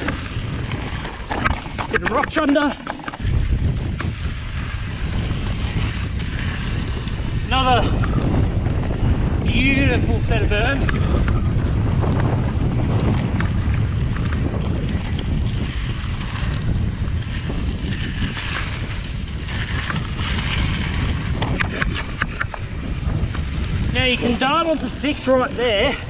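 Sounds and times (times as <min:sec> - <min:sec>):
mountain bike rolling on dirt: 0:00.0 - 0:26.0
wind buffeting microphone: 0:00.0 - 0:26.0.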